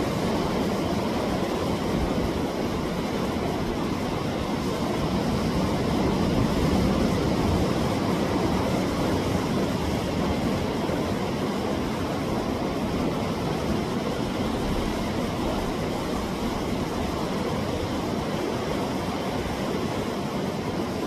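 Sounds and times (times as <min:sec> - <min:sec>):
sea waves on rocky shore: 0:00.0 - 0:21.0.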